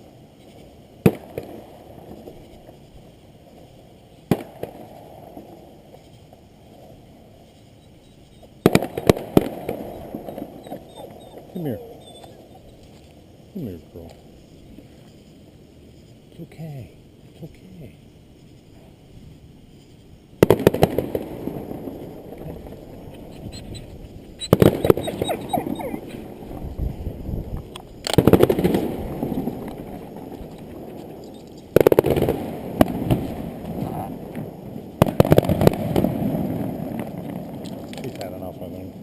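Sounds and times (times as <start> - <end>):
firework crackling: 0.0 - 10.6, 11.5 - 39.0.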